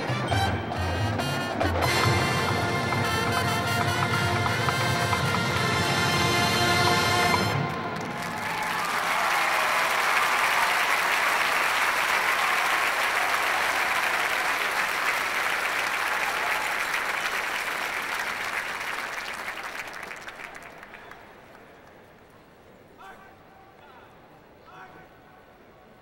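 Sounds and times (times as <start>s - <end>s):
stadium crowd applauding: 0.0s - 22.7s.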